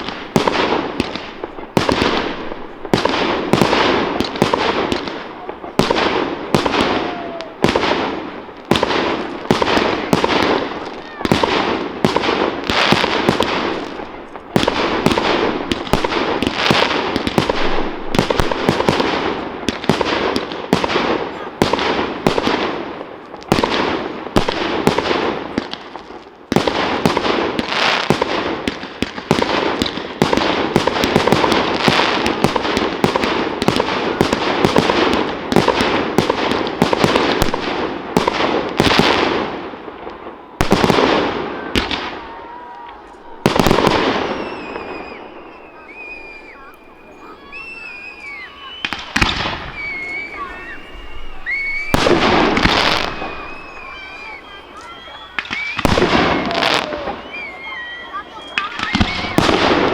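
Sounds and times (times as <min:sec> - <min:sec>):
fireworks crackling: 0:00.0 - 0:59.9
sharp firework bangs: 0:00.0 - 0:59.9.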